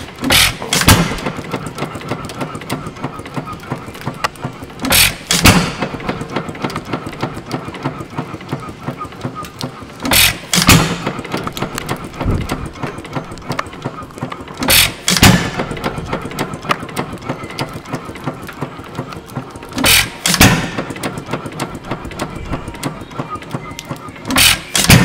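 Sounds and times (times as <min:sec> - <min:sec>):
engine firing bangs: 0:00.0 - 0:07.9, 0:10.0 - 0:18.7, 0:19.7 - 0:25.0
engine coasting clatter: 0:00.0 - 0:25.0.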